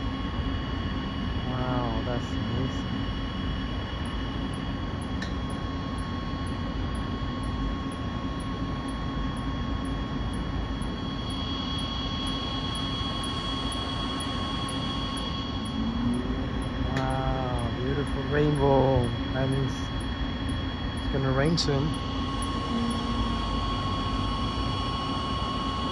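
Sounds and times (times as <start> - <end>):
constant hum: 0.0 - 25.9
fan drone: 0.0 - 25.9.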